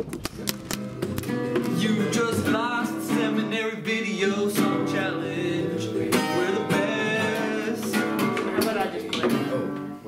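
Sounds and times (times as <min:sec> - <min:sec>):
acoustic guitar strumming and plucking: 0:00.0 - 0:10.0.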